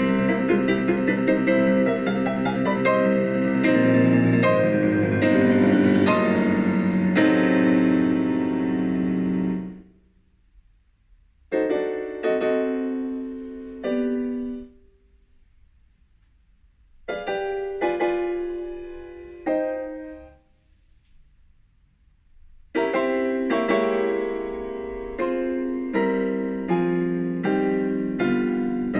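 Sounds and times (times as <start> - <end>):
solo piano chords: 0.0 - 10.0, 11.5 - 15.1, 17.0 - 20.5, 22.7 - 28.9.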